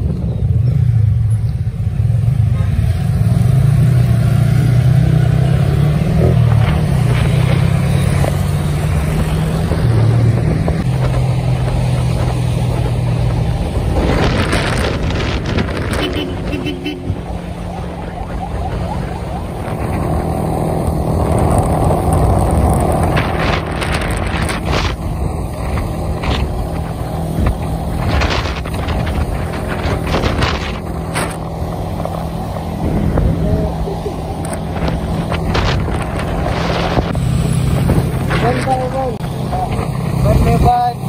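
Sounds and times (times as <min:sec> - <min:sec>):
motorcycle engine running: 0:04.8 - 0:41.0
wind buffeting microphone: 0:06.1 - 0:41.0.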